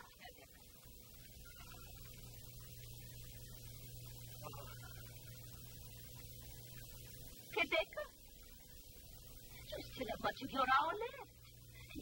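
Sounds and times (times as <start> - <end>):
low humming drone: 0.0 - 12.0
tape hiss: 0.0 - 12.0.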